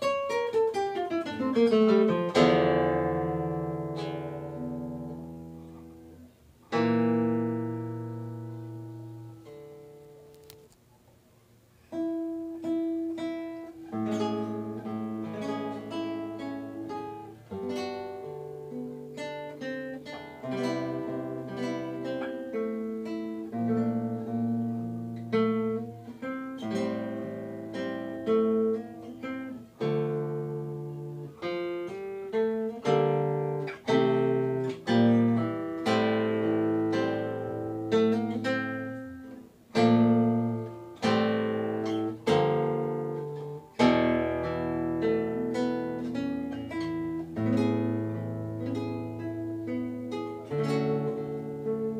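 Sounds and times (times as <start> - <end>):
acoustic guitar music: 0.0 - 51.9.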